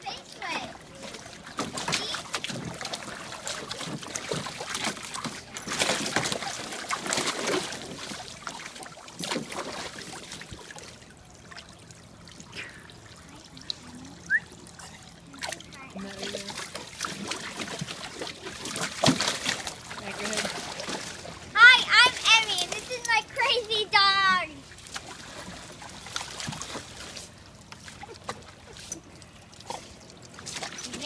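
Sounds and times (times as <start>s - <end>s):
water splashing and trickling: 0.0s - 31.0s.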